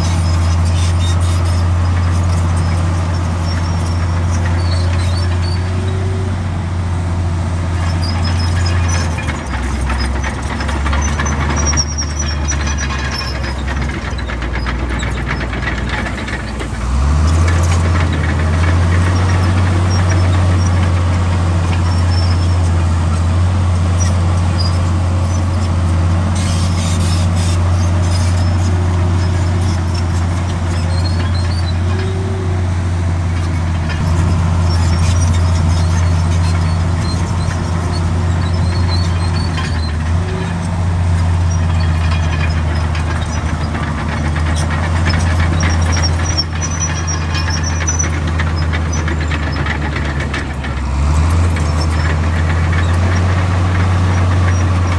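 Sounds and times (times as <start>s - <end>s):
short high squeaks: 0.0s - 6.2s, 7.8s - 23.3s, 23.9s - 54.9s
heavy diesel engine running: 0.0s - 54.9s.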